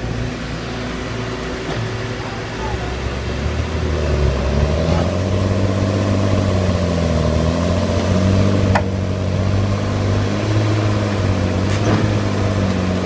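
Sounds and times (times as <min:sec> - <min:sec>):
heavy diesel machines droning: 0:00.0 - 0:13.0.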